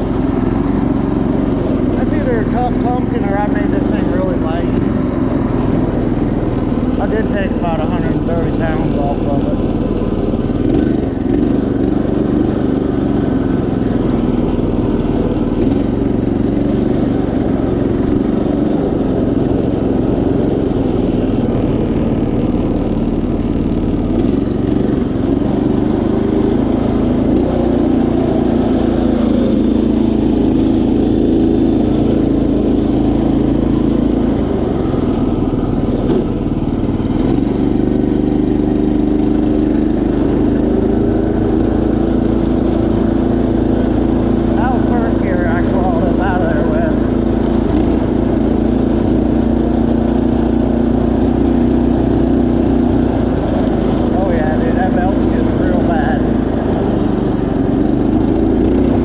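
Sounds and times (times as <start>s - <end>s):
riding mower engine running: 0.0s - 59.0s.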